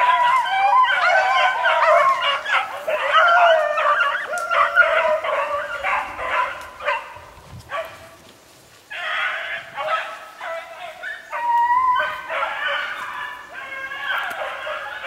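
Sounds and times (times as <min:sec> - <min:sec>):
hounds baying: 0:00.0 - 0:08.1, 0:08.9 - 0:15.0.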